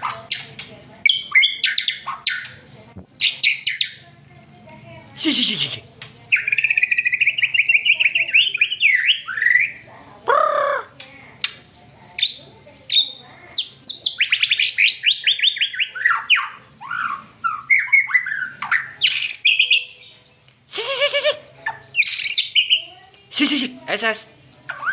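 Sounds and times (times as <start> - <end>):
bird singing: 0.0 - 4.1, 6.3 - 10.9, 12.2 - 24.9.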